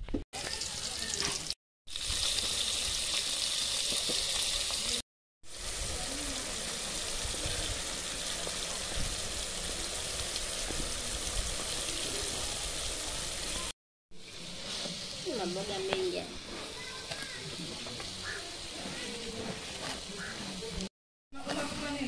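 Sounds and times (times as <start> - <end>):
vegetables sizzling in oil: 0.4 - 19.3.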